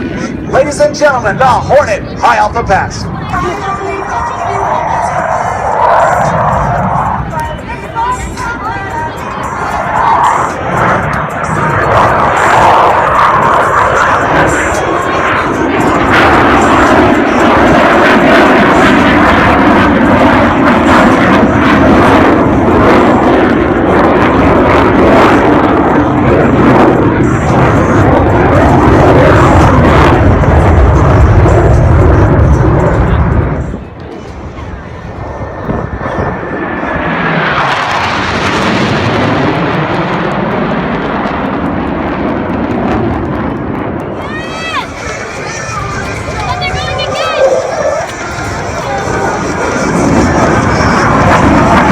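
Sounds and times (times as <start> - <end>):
jet engines passing by: 0.0 - 51.9.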